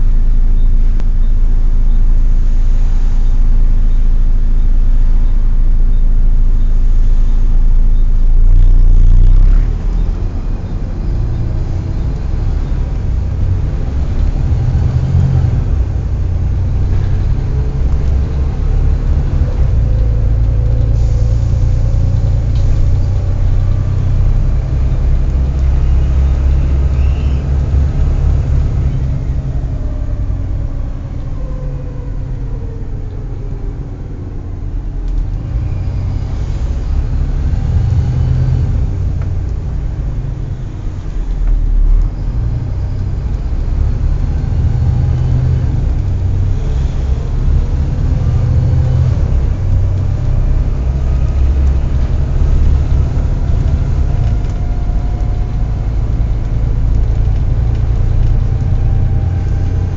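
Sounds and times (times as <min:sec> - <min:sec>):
bus diesel engine rumbling: 0:00.0 - 0:59.9.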